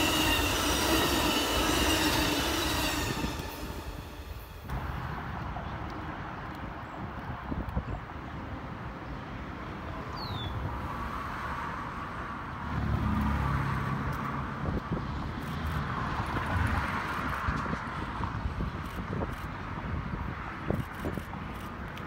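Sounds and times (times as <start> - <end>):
passing train rumbling: 0.0 - 22.0.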